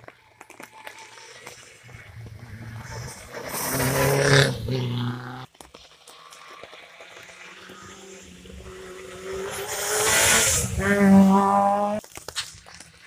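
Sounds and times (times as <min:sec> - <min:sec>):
distant rally car engine: 0:00.2 - 0:12.1
rally car engine at high revs: 0:00.9 - 0:12.1.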